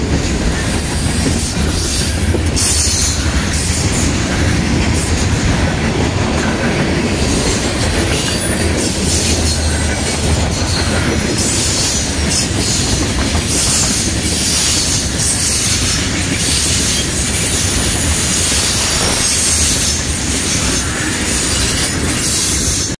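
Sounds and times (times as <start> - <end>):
freight cars rolling on rails: 0.0 - 23.0.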